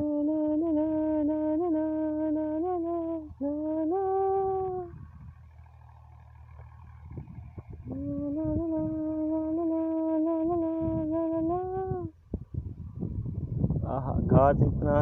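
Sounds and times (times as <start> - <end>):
melody of long held notes: 0.0 - 12.1
low rumble: 0.0 - 15.0.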